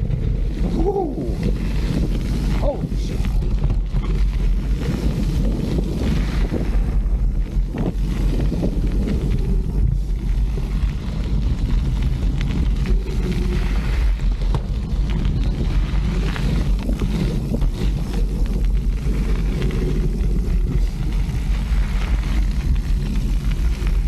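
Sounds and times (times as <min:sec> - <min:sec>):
bike rattling: 0:00.0 - 0:24.0
bike tyres rolling on dirt: 0:00.0 - 0:24.0
wind buffeting microphone: 0:00.0 - 0:24.0.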